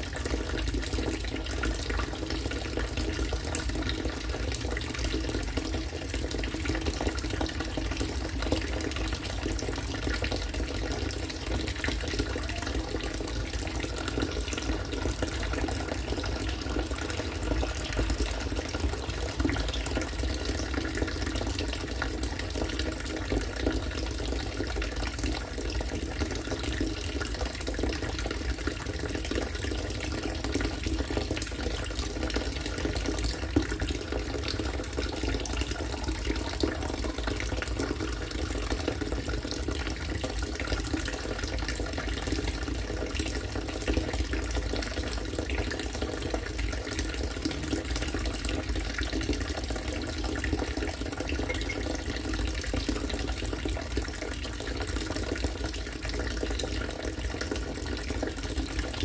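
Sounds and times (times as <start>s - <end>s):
rainwater splashing into water: 0.0s - 59.0s.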